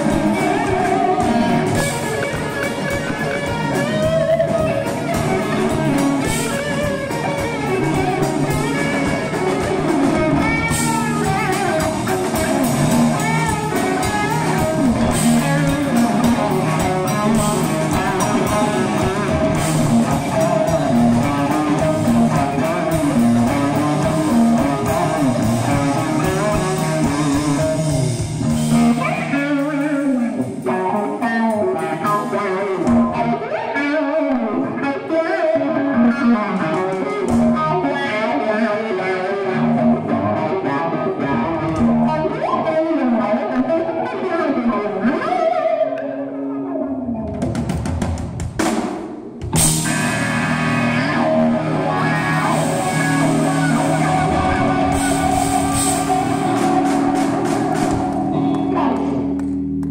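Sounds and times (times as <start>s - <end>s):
drums: 0.0s - 45.8s, 46.9s - 59.9s
bass guitar: 0.0s - 59.9s
electric guitar lead lines: 0.0s - 59.9s.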